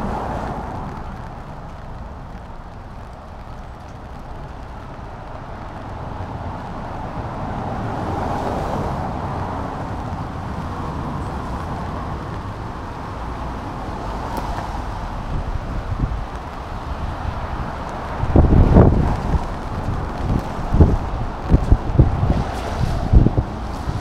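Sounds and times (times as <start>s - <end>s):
cars passing on wet road: 0.0s - 24.0s
wind rumble on microphone: 0.0s - 24.0s.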